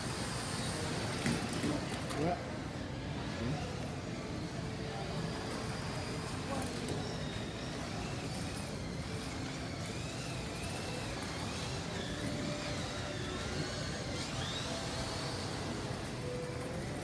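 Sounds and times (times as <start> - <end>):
small motors whining: 0.0 - 17.0
steady background din: 0.0 - 17.0.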